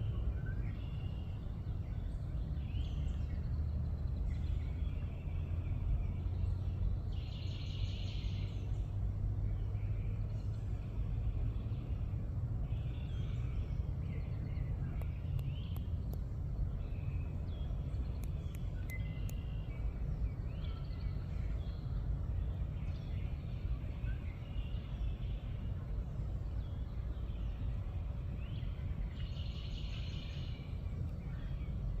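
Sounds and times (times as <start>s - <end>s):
wild birds singing: 0.0s - 32.0s.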